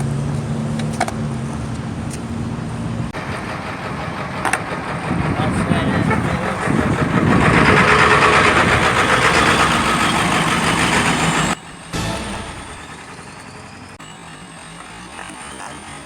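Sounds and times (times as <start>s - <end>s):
skateboard wheels rolling on pavement: 0.0s - 15.6s.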